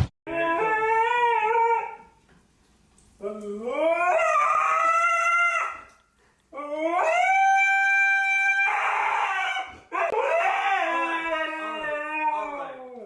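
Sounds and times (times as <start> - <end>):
dog howling: 0.3 - 2.1, 3.2 - 5.9, 6.6 - 13.0.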